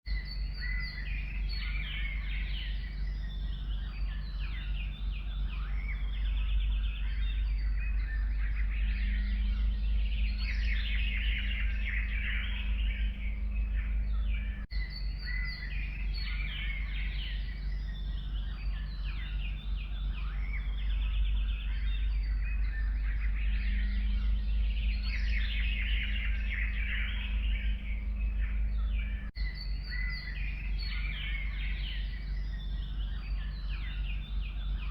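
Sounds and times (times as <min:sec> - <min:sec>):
low rumble: 0:00.1 - 0:34.9
songbirds chirping and trilling: 0:00.1 - 0:34.9.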